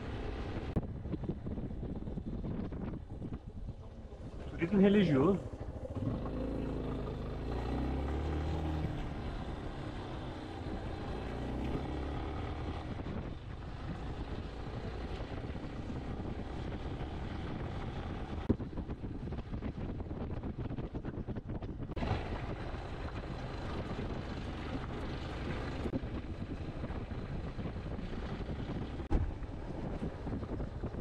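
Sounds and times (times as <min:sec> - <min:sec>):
motorcycle engine running: 0:00.0 - 0:31.0
wind on microphone: 0:00.0 - 0:31.0.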